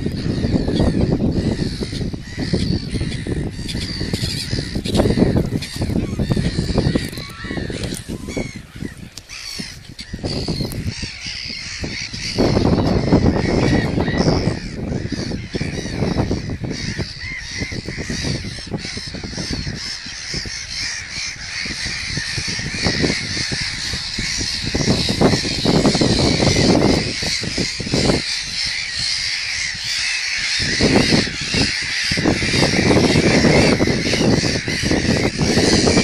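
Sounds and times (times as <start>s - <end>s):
gulls calling: 0.0s - 36.0s
wind buffeting microphone: 0.0s - 36.0s.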